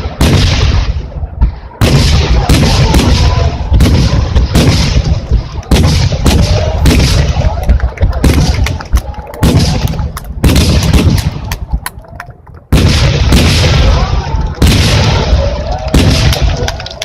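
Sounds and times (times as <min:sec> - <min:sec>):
firework booms: 0:00.0 - 0:11.9, 0:12.7 - 0:17.0.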